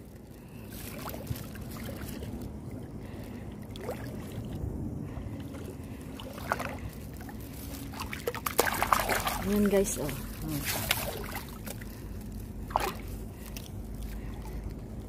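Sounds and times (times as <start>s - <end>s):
small water splashes: 0.0s - 14.9s
shallow water sloshing: 0.0s - 15.0s.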